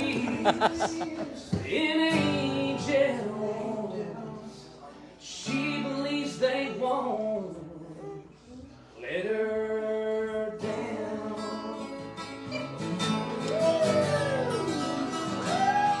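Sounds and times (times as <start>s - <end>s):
acoustic guitar strumming: 0.0s - 8.0s, 9.1s - 16.0s.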